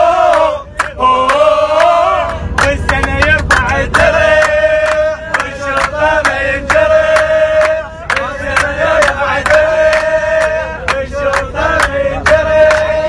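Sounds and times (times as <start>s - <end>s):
men chanting and singing: 0.0s - 13.0s
rhythmic hand clapping: 0.2s - 13.0s.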